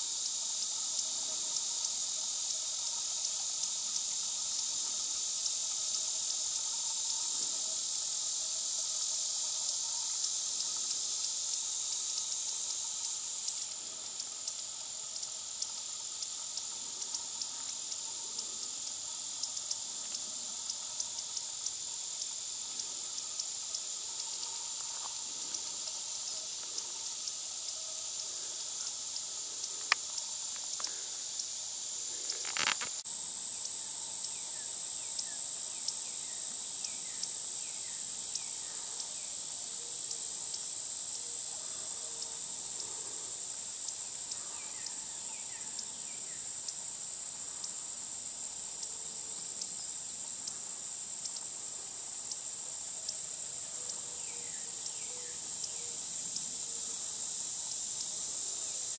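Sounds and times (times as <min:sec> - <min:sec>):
insects droning: 0:00.0 - 0:58.9.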